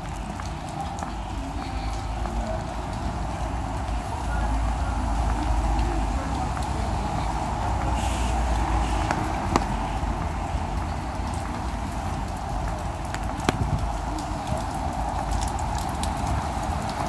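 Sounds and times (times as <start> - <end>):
cars passing on wet road: 0.0 - 17.0
footsteps on wet paving: 0.0 - 17.0
rain hiss: 0.0 - 17.0.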